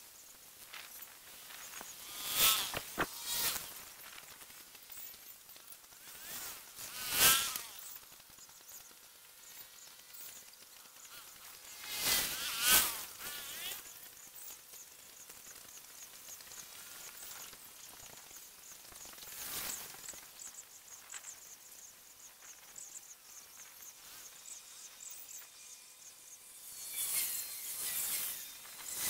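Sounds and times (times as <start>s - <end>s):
high-pitched insect chirps: 0.0s - 29.0s.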